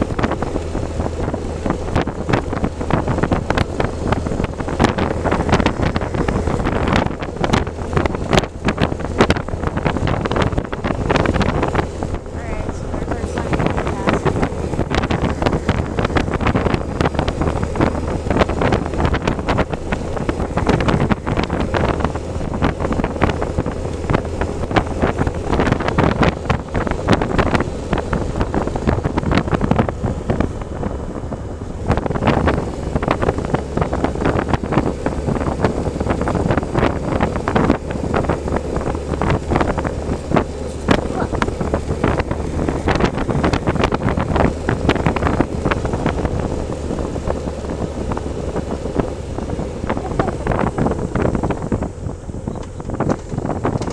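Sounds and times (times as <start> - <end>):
constant rattling: 0.0 - 53.9
motorcycle engine hum: 0.0 - 53.9
wind buffeting microphone: 0.0 - 53.9.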